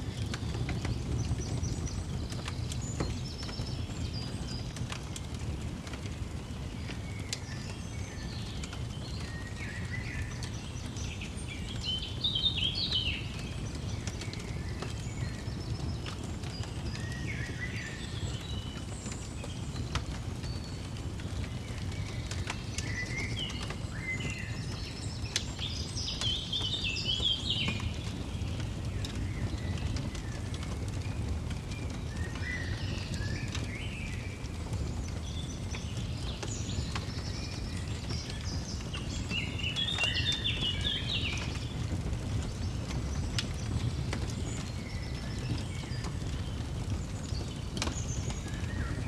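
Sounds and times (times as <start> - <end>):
songbirds chirping: 0.0 - 49.0
wood fire crackling: 0.0 - 49.0.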